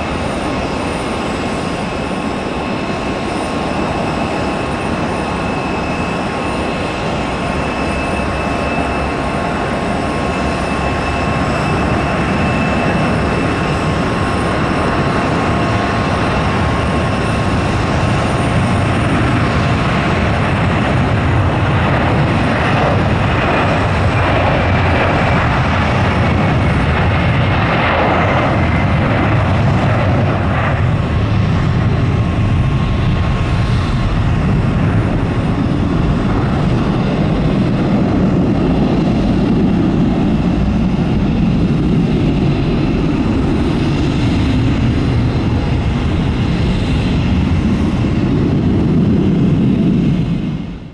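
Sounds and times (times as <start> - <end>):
jet engine roar with high whine: 0.0 - 50.9.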